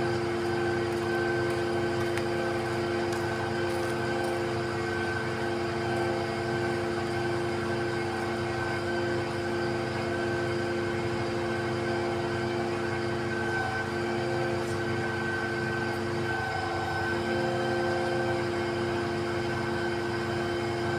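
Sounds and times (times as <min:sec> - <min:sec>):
concrete pump droning: 0:00.0 - 0:20.9.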